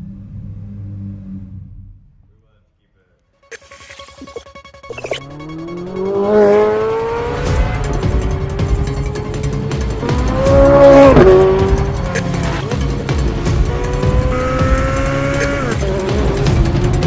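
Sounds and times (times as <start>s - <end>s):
car engine accelerating: 0.0s - 2.2s, 4.8s - 17.0s
music playing: 3.3s - 17.0s.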